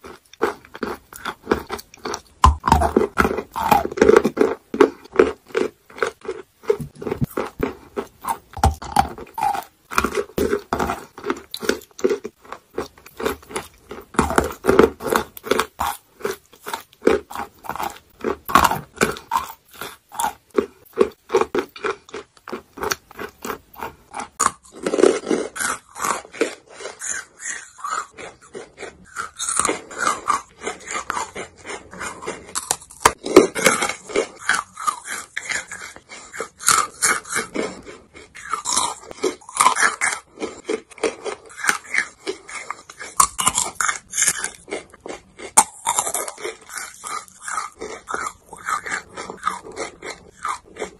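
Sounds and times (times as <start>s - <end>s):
chewing and crunching chalk: 0.0s - 50.9s.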